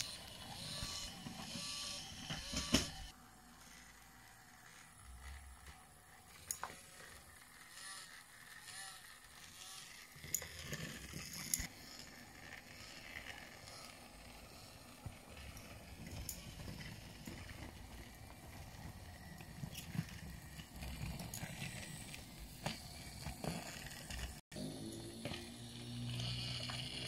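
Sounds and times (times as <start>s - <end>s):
toy train motor whir: 0.0s - 27.0s
wheels rumbling over wooden track: 4.9s - 27.0s.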